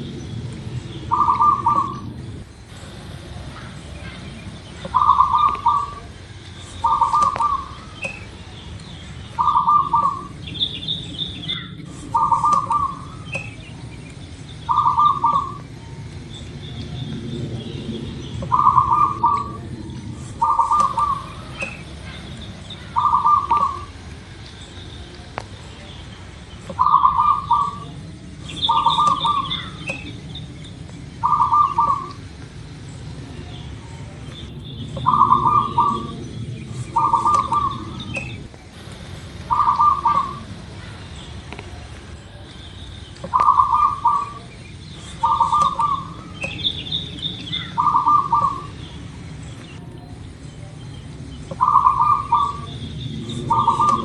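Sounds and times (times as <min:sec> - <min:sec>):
dove cooing: 0:00.0 - 0:25.3, 0:26.6 - 0:42.2, 0:43.2 - 0:50.4, 0:51.4 - 0:54.0
bird chirps: 0:00.0 - 0:38.5, 0:39.4 - 0:54.0.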